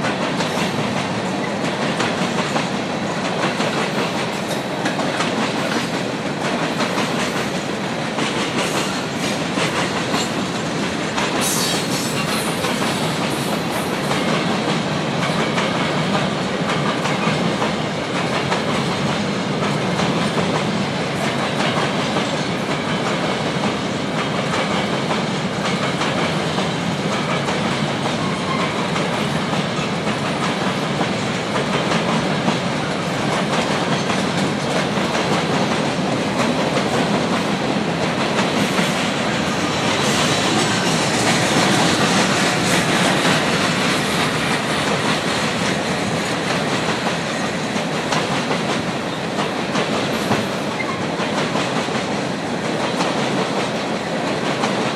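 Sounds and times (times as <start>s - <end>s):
steel wheels on rail: 0.0s - 54.9s
train cars rolling past: 0.0s - 54.9s.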